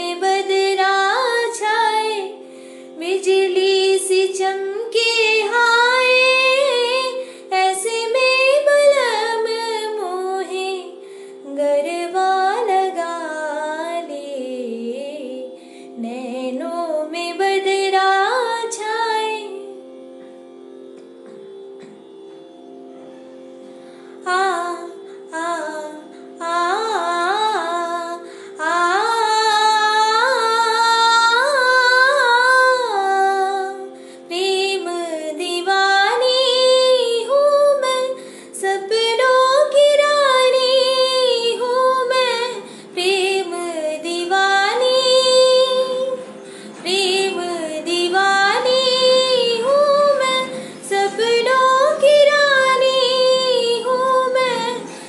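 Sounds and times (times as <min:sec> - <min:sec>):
woman singing: 0:00.0 - 0:19.8, 0:24.2 - 0:55.0.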